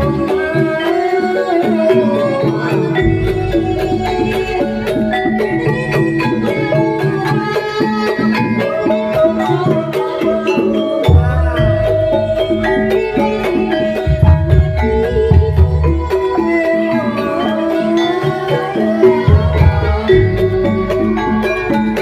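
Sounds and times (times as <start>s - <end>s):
gamelan metal mallet instruments: 0.0s - 22.0s.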